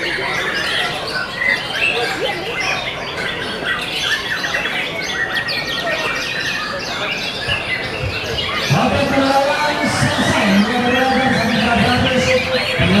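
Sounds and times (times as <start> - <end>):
songbirds singing whistles and trills: 0.0 - 13.0.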